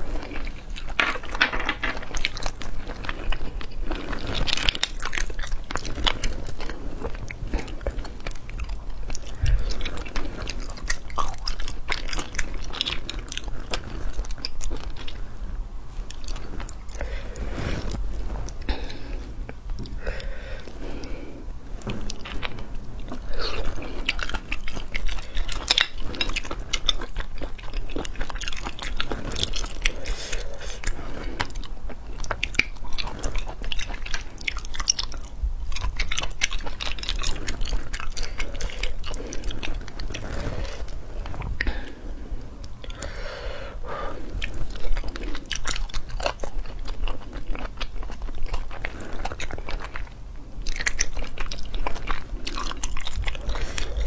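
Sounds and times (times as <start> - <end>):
close chewing with mouth clicks: 0.0 - 54.0.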